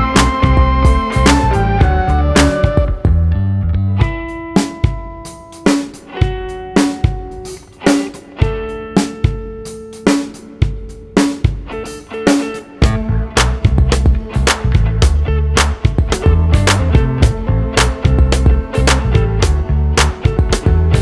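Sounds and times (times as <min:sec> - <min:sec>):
steady drum beat: 0:00.0 - 0:03.3, 0:04.0 - 0:21.0
guitar band music: 0:00.0 - 0:21.0.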